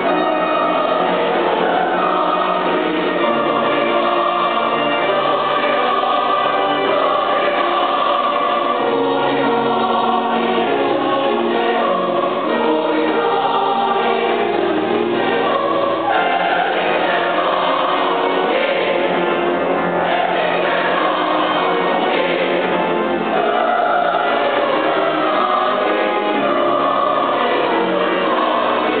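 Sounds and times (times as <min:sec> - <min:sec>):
choir of young voices singing: 0:00.0 - 0:29.0.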